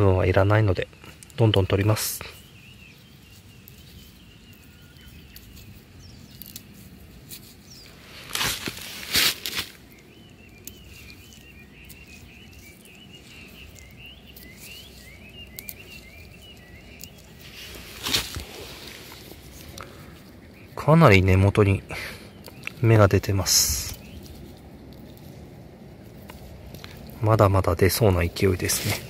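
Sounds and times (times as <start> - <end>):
small birds chirping: 0.0 - 29.0
hands rustling and crackling: 1.0 - 29.0.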